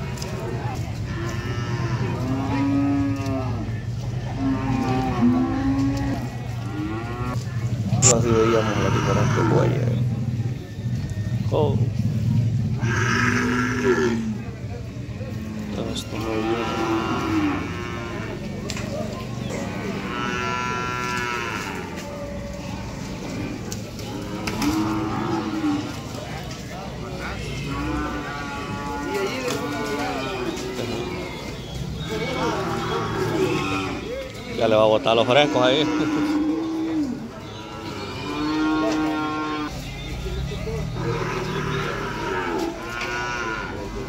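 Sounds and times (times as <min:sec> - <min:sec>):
cattle mooing: 0:01.0 - 0:10.0, 0:12.8 - 0:14.5, 0:15.2 - 0:18.6, 0:19.5 - 0:26.4, 0:27.2 - 0:39.8, 0:40.6 - 0:44.0.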